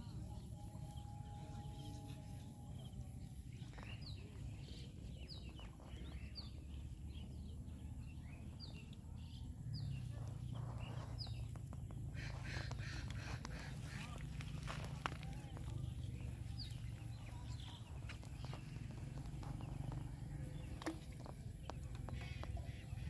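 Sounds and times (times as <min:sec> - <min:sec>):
bird chirping: 0:00.0 - 0:23.0
steady low rumble: 0:00.0 - 0:23.0.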